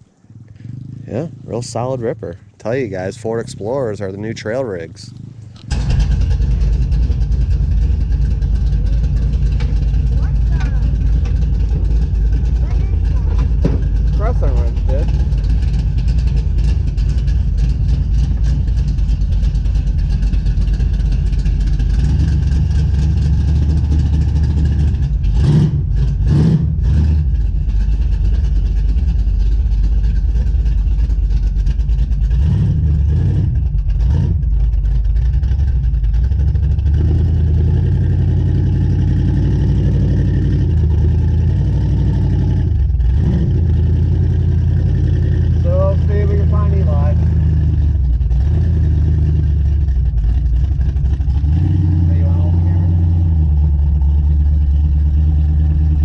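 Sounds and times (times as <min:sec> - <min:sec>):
engine idling with rumbling surges: 0:00.0 - 0:56.0.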